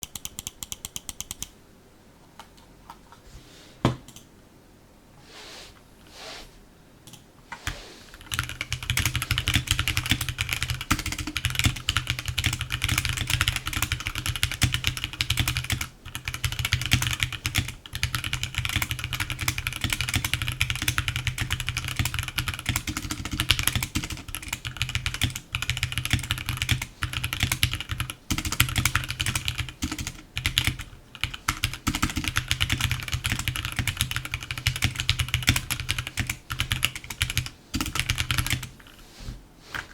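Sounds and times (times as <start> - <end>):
mechanical keyboard typing: 0.0 - 1.5, 8.2 - 38.7.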